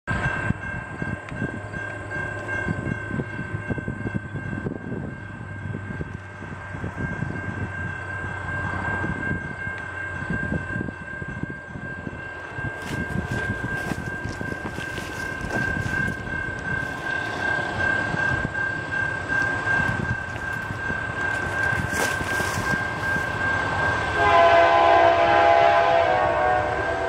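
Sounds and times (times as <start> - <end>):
wind buffeting microphone: 0.1 - 25.3
steady high-pitched tone: 0.1 - 25.8
distant train rumble: 0.1 - 27.0.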